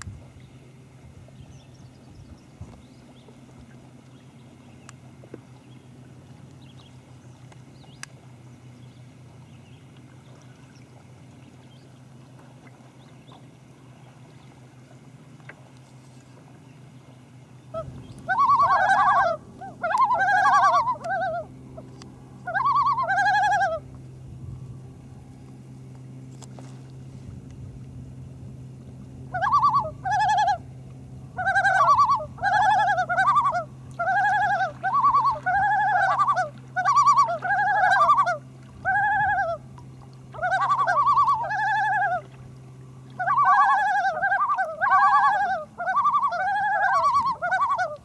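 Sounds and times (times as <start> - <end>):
loons calling: 0.3 - 48.0.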